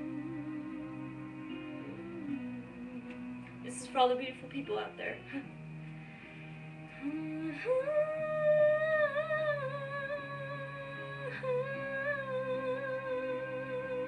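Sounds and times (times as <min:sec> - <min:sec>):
backing track of sustained chords: 0:00.0 - 0:14.0.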